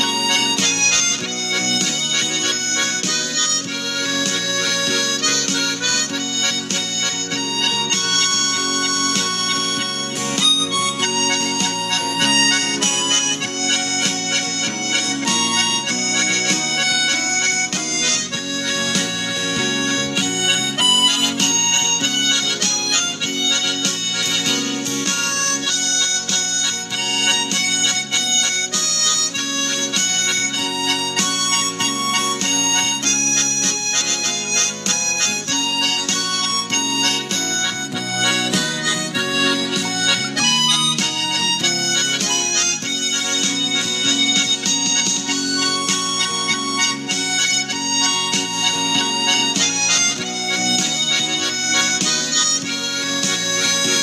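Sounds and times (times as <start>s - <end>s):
harmonica melody: 0.0s - 54.0s.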